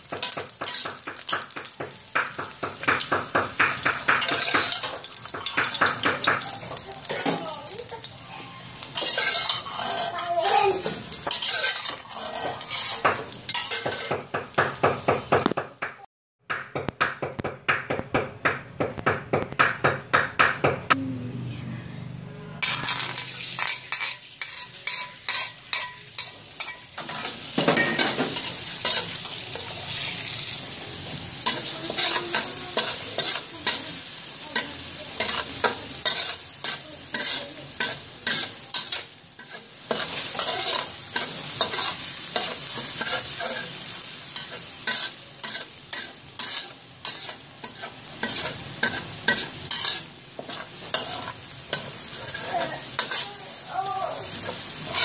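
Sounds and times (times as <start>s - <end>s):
garlic sizzling in oil: 0.0s - 16.0s, 22.6s - 55.0s
metal spatula scraping wok: 0.2s - 1.6s, 2.5s - 14.3s, 22.6s - 53.5s, 54.2s - 55.0s.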